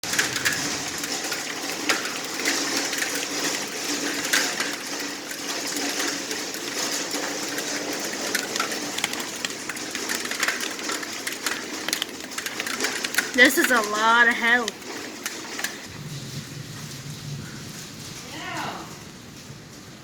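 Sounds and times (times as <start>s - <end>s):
hailstones striking: 0.0s - 20.0s
heavy rain: 0.0s - 20.0s.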